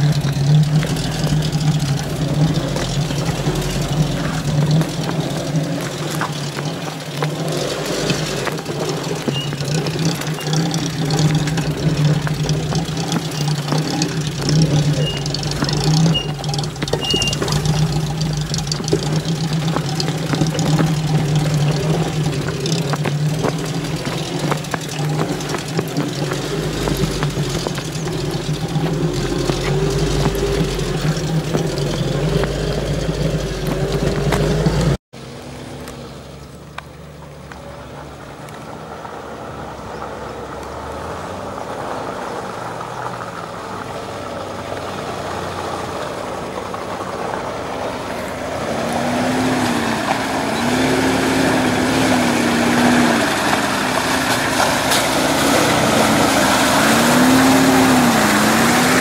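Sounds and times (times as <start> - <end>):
off-road vehicle engine running: 0.0 - 59.0
quieter engine approaching: 0.0 - 59.0.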